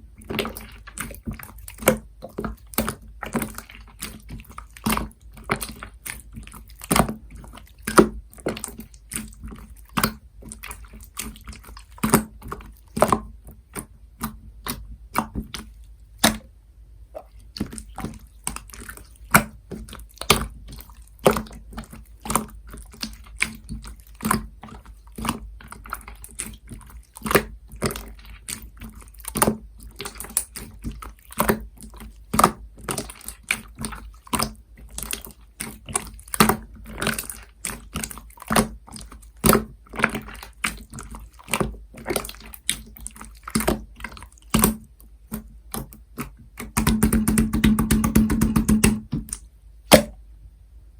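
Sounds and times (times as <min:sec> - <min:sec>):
slime squished by hand: 0:00.2 - 0:16.5, 0:17.1 - 0:50.2.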